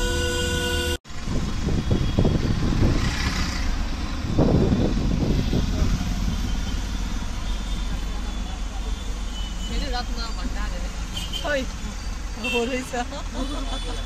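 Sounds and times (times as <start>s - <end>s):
street traffic: 0.0s - 14.0s
vehicle engine and road noise: 0.0s - 14.0s.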